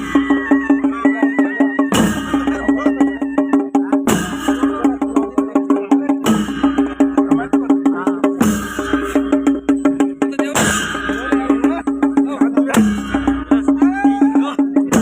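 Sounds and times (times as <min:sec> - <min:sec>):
fast drum strokes: 0:00.0 - 0:15.0.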